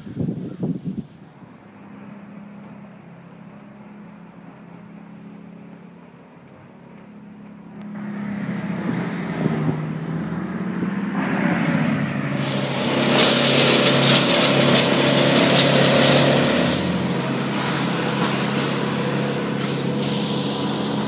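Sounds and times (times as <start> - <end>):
road noise: 0.0 - 21.0
car engine hum: 1.1 - 21.0.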